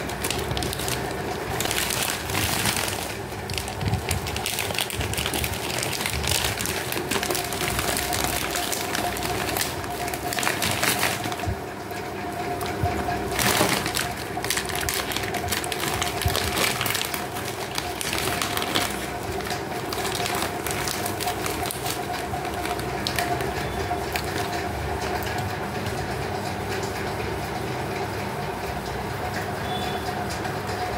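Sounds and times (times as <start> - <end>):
plastic bag crinkling: 0.0 - 26.1
steady background hum: 0.0 - 30.9.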